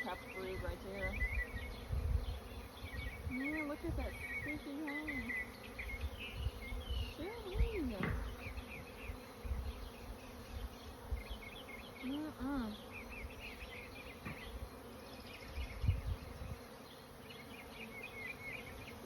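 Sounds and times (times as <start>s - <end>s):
bee buzzing past closely: 0.0s - 19.0s
honeybees buzzing: 0.0s - 19.0s.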